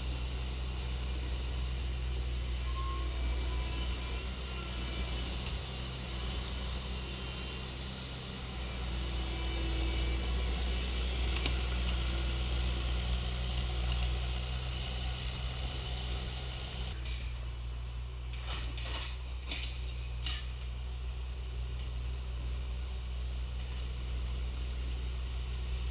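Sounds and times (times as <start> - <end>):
track loader diesel engine running: 0.0 - 25.9.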